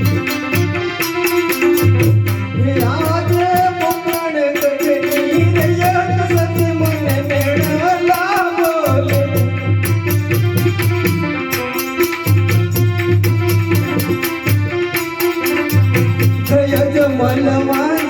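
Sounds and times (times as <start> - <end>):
drum: 0.0 - 18.0
small cymbals keeping a beat: 0.0 - 18.0.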